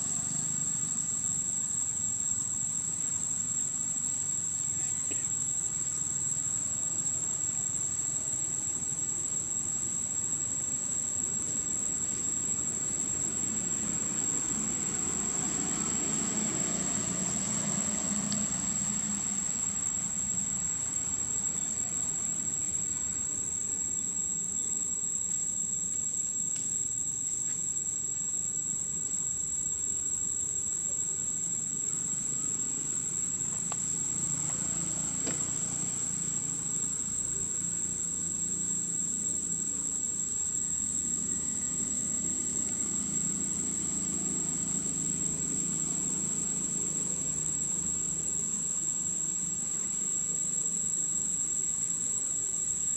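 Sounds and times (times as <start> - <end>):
high-pitched insect drone: 0.0 - 52.9.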